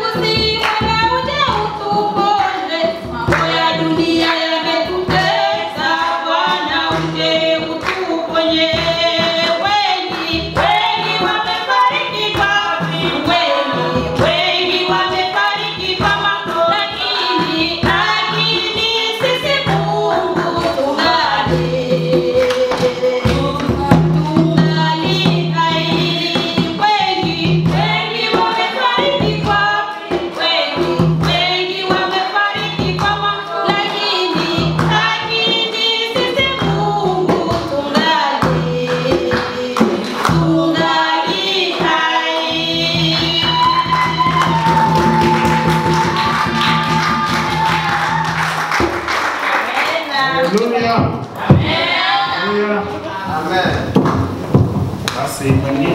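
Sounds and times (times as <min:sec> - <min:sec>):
choir and congregation singing: 0:02.5 - 0:23.9, 0:25.6 - 0:50.5, 0:51.3 - 0:53.4.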